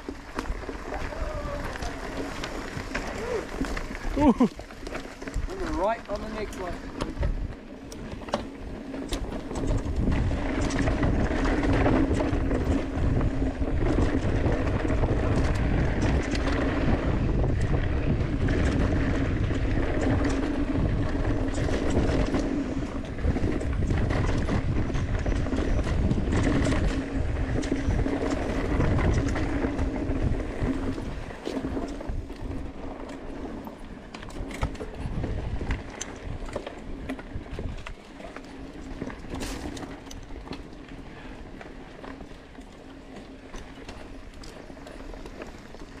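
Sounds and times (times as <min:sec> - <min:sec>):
wind buffeting microphone: 0:00.0 - 0:04.6, 0:05.2 - 0:42.6
bike knocking and rattling: 0:00.0 - 0:46.0
bike tyres rumbling over dirt: 0:00.0 - 0:46.0.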